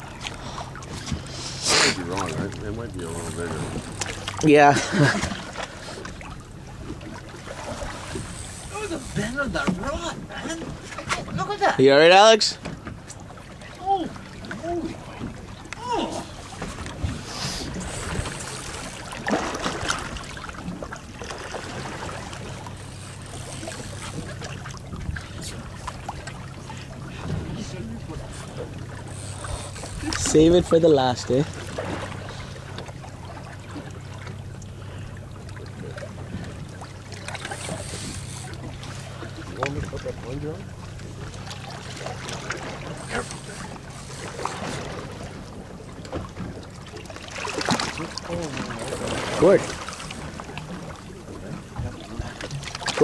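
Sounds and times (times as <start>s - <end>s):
boat engine idling: 0.0s - 53.0s
water lapping and splashing: 0.0s - 53.0s.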